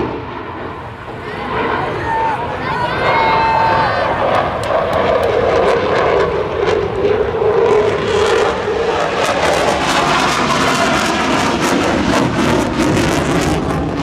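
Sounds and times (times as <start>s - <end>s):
loud jet engines roaring: 0.0s - 14.0s.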